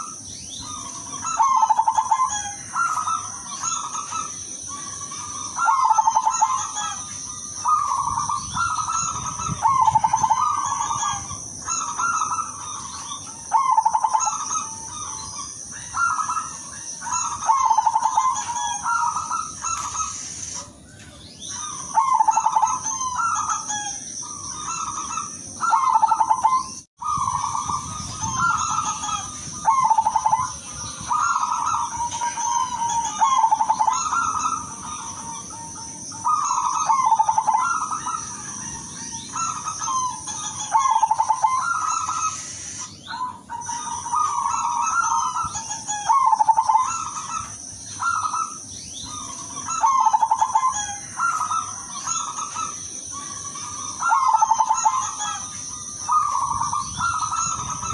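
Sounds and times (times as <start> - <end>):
dove cooing: 0.0 - 57.9.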